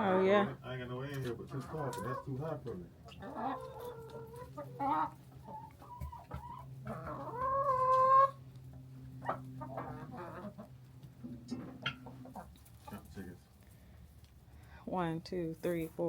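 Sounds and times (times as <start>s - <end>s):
chickens clucking: 0.0s - 14.5s
steady low hum: 0.0s - 16.0s.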